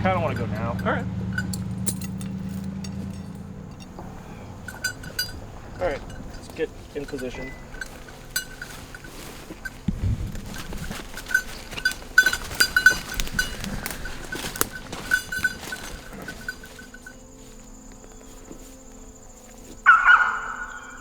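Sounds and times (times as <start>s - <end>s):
small collar bell jingling: 0.0s - 18.0s.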